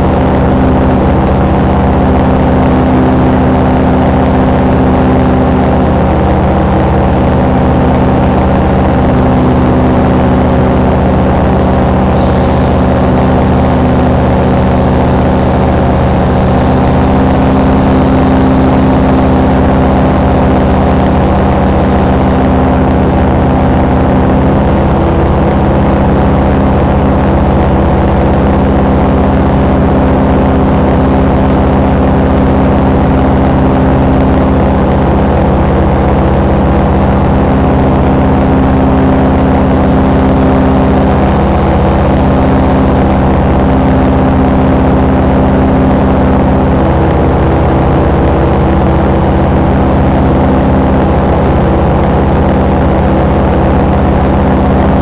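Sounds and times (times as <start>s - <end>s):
paramotor engine running: 0.0s - 55.0s.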